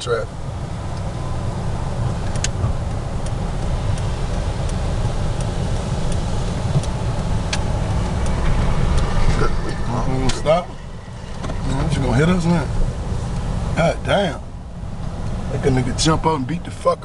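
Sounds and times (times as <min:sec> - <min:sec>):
turn signal ticking: 0:00.0 - 0:16.8
car engine and road rumble: 0:00.0 - 0:17.0.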